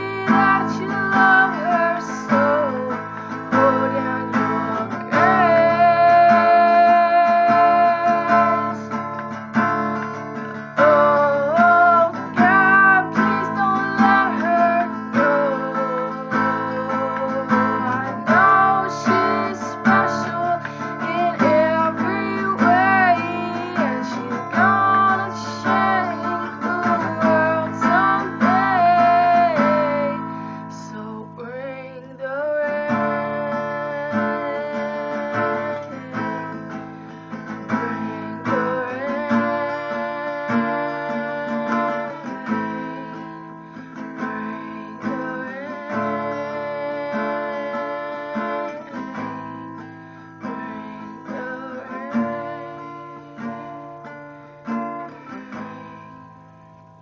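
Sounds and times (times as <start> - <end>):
woman singing long held notes: 0.0 - 8.9, 10.6 - 53.8
strummed acoustic guitar: 0.0 - 57.0.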